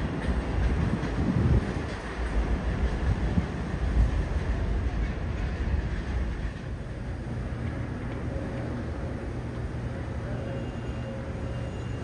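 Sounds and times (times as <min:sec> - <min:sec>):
train rumbling on steel structure: 0:00.0 - 0:12.0.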